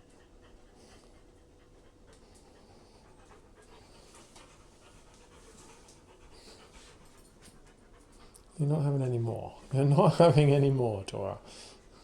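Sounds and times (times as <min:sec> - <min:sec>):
dog panting: 0:00.0 - 0:09.8.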